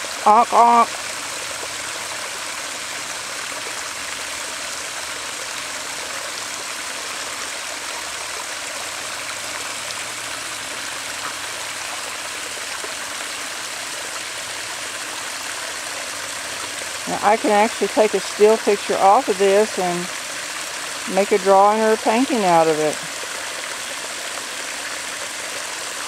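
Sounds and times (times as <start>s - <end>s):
water pouring over spillway: 0.0s - 26.0s.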